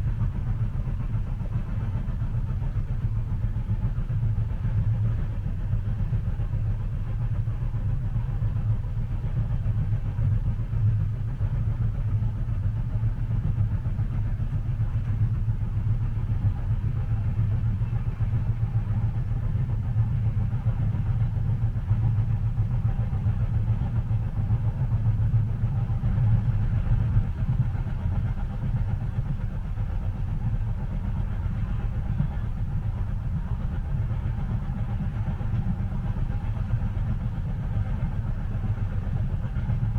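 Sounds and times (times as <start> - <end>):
train rumbling inside passenger car: 0.0 - 39.9.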